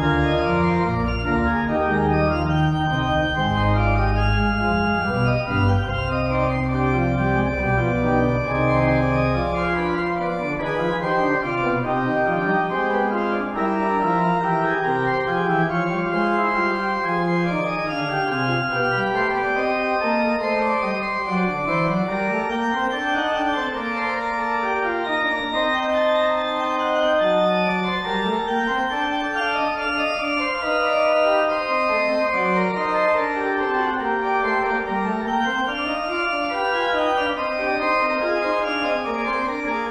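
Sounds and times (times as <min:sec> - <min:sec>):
church organ playing: 0:00.0 - 0:39.9.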